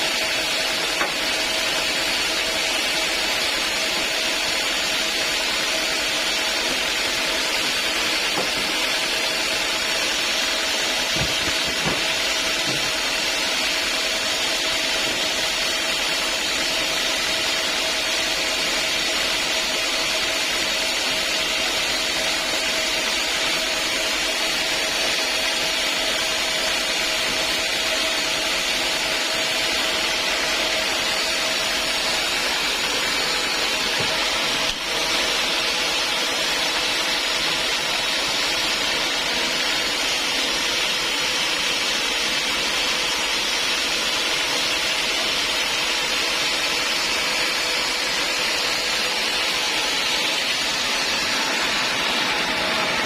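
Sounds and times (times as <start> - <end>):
saw cutting through log: 0.0 - 53.0.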